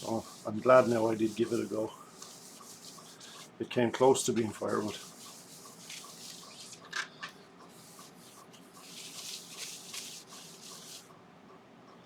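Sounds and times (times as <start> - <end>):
rubbing strokes on wooden bowl: 0.0 - 6.8, 7.7 - 11.1.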